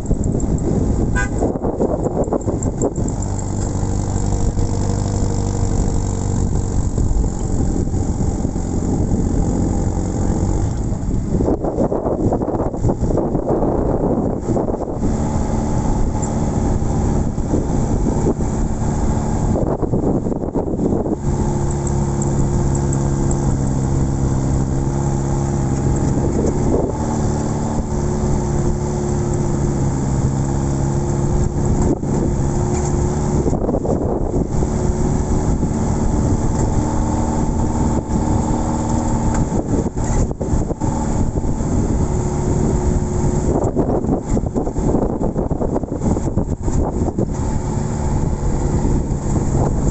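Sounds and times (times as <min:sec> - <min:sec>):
constant rushing noise: 0:00.0 - 0:49.9
vehicle engine running: 0:00.0 - 0:49.9.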